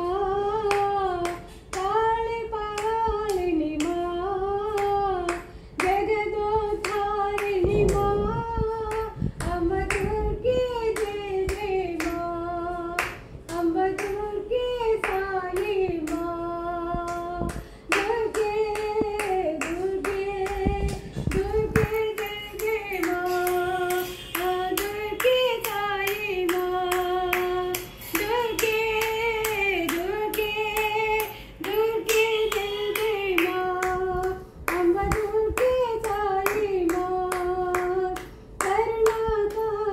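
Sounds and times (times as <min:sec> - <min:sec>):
hands clapping steady beat: 0:00.0 - 0:39.9
woman singing devotional song: 0:00.0 - 0:39.9.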